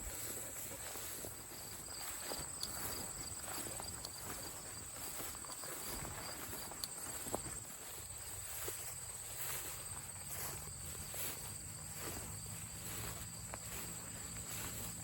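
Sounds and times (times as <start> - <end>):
footsteps on grass: 0.0 - 15.0
insects chorus: 0.0 - 15.0
faint insect trill: 0.1 - 15.0.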